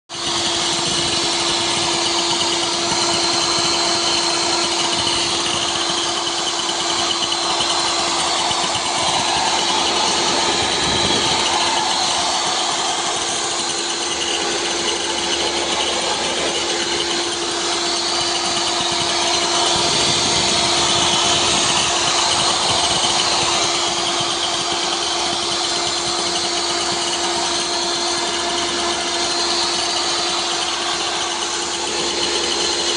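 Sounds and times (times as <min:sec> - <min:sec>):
table saw motor whining: 0:00.1 - 0:32.9.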